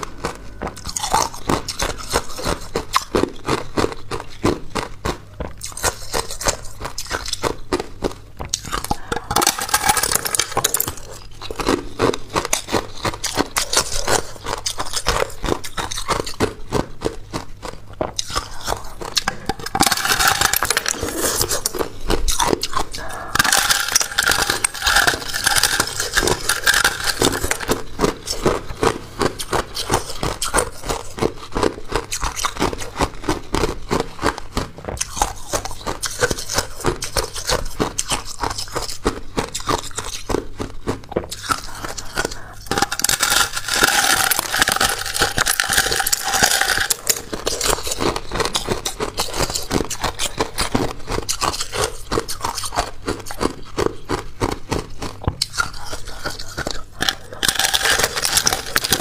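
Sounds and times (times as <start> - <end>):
ice crunching being chewed: 0.0 - 59.0.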